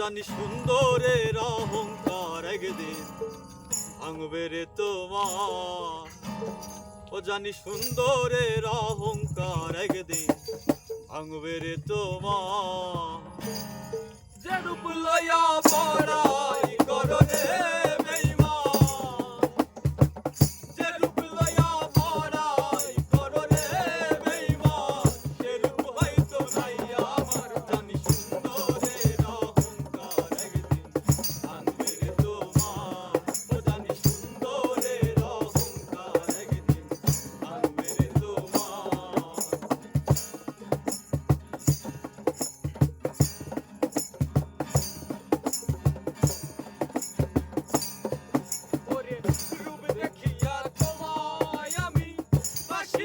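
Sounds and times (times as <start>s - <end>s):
drum beat: 0.4s - 2.4s, 7.9s - 13.2s, 15.6s - 53.0s
jingling rattles: 1.4s - 4.2s, 5.2s - 53.0s.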